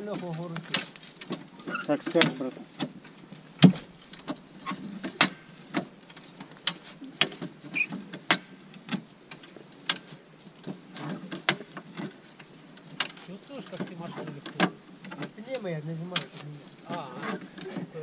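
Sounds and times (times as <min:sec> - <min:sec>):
off-road vehicle rattling: 0:00.0 - 0:18.0.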